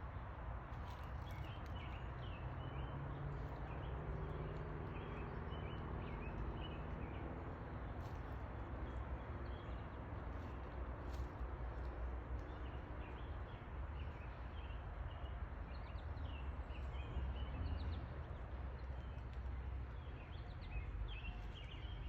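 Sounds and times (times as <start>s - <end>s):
songbirds twittering: 0.8s - 22.0s.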